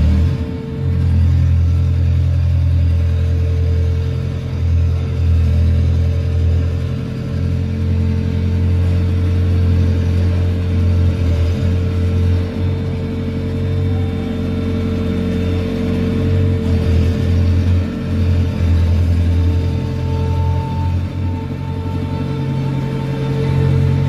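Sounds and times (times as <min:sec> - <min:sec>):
machinery engine drone: 0:00.0 - 0:24.0
mid-pitched machine whine: 0:00.0 - 0:24.0.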